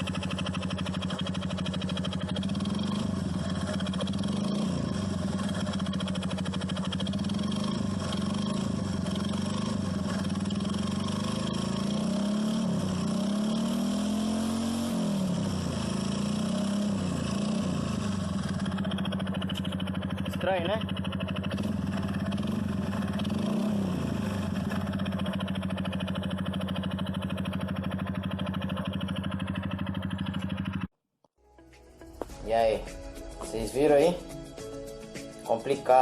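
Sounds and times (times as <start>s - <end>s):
mechanical noise in engine: 0.0s - 30.9s
motorcycle engine running: 0.0s - 31.0s.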